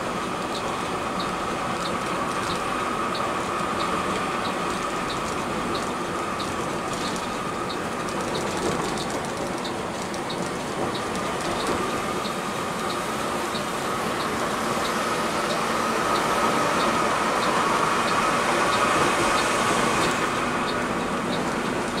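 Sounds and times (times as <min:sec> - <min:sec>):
bus running: 0:00.0 - 0:22.0
light ticking: 0:00.5 - 0:18.8.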